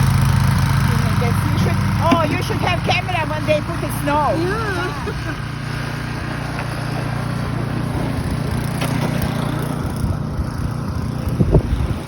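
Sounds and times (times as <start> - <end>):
motor engine rumbling: 0.0 - 12.0.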